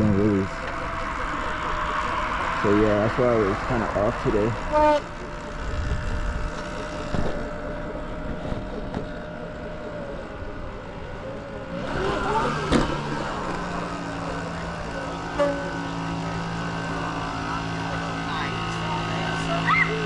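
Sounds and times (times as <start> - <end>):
passing vehicle with shifting pitch: 0.0 - 20.0
vehicle motor hum: 0.0 - 20.0
wind and road noise: 0.0 - 20.0.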